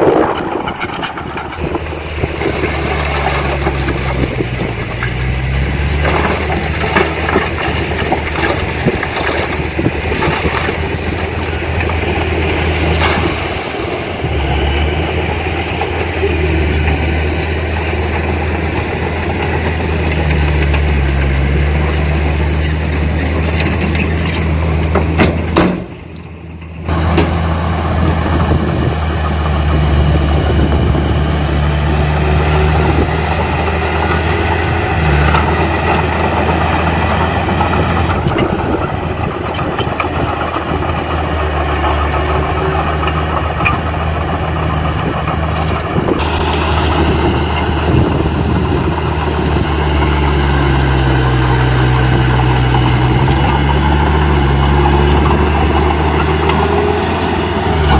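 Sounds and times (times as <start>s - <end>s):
heavy diesel engines droning: 0.0s - 57.9s.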